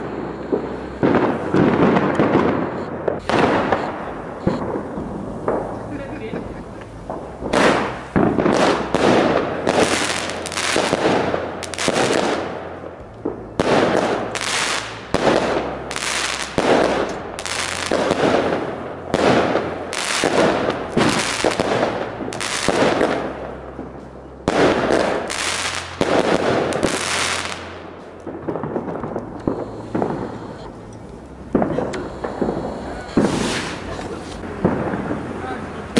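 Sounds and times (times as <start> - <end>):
firework bangs: 0.0 - 35.9.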